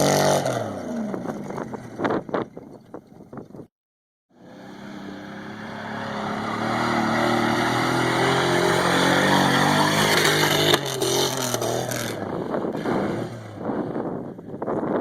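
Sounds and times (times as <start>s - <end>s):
truck engine at high revs: 0.0s - 2.5s, 4.3s - 14.7s.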